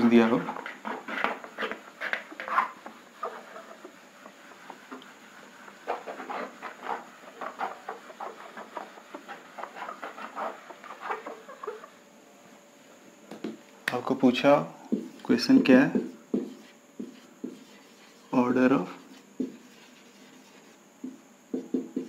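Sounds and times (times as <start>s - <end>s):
duster scrubbing a whiteboard: 0.0s - 11.9s, 14.2s - 22.0s.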